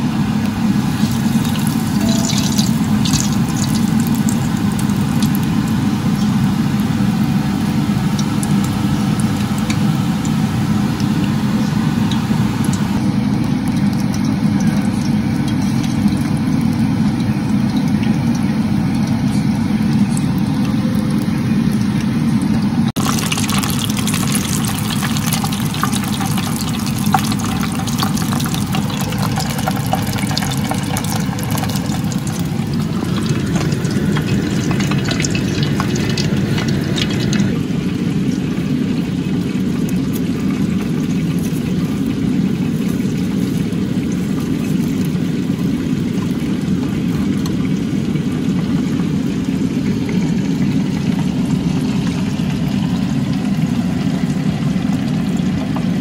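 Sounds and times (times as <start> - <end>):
deep-frying sizzle: 0.0 - 56.0.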